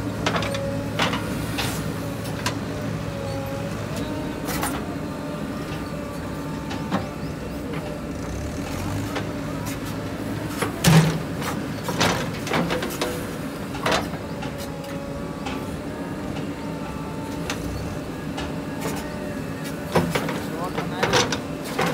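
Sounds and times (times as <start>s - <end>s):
diesel engine running: 0.0s - 21.9s
hydraulic whine: 0.0s - 21.9s.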